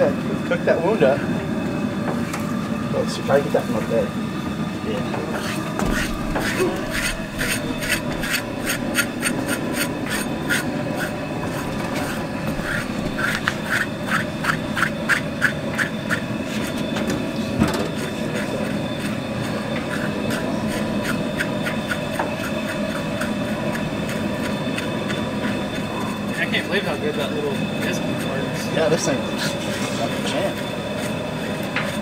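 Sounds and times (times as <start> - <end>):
metal scrapers rasping on hide: 5.2 - 32.0.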